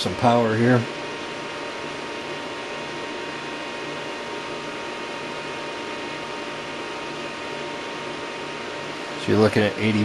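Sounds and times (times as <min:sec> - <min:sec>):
cooling fans running: 0:00.0 - 0:10.0
faint steady whine: 0:00.0 - 0:10.0.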